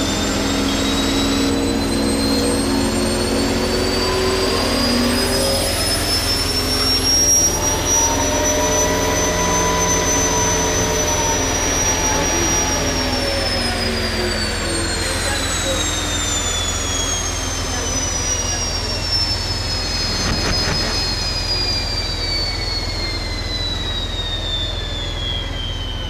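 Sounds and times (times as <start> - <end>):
steady engine rumble: 0.0 - 26.0
turbine engine whine rising: 0.0 - 26.0.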